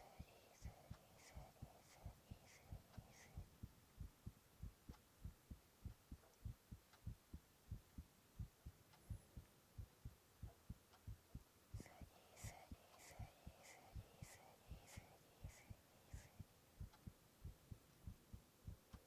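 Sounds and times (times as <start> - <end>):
heartbeat thumps: 0.0 - 19.0.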